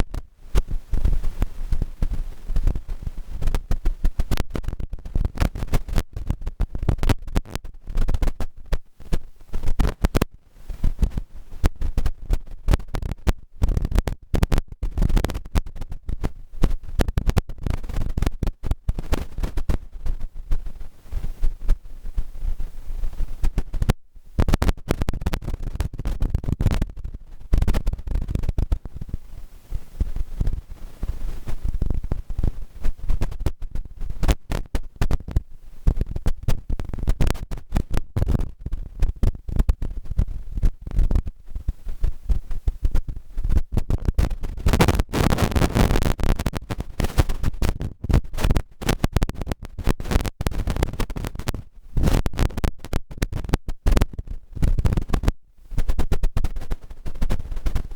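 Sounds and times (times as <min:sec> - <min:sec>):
rumbling and scratching on microphone: 0:00.0 - 0:57.9.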